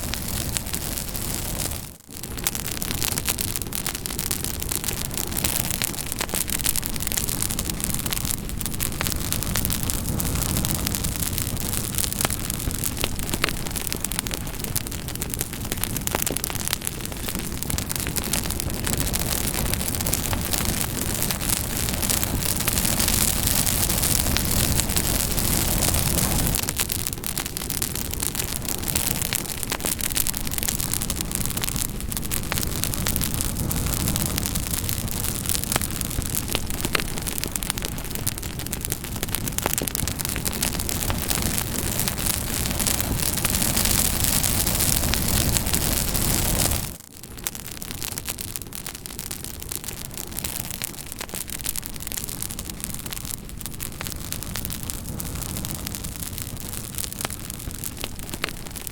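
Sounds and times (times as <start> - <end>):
burning wood crackling and popping: 0.0 - 58.9
campfire flames hissing: 0.0 - 58.9.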